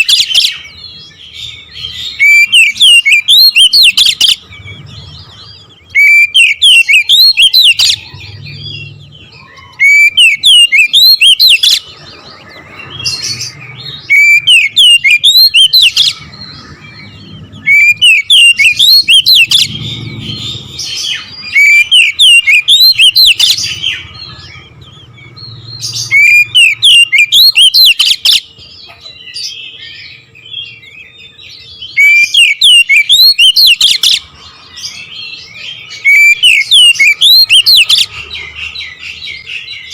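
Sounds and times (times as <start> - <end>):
bird singing rapid whistled notes: 0.0 - 39.9.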